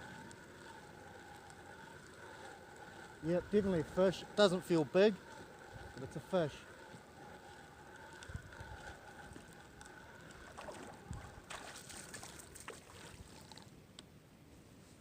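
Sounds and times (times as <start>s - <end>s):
fishing line clicks and scrapes: 0.0s - 14.1s
faint wind: 0.0s - 15.0s.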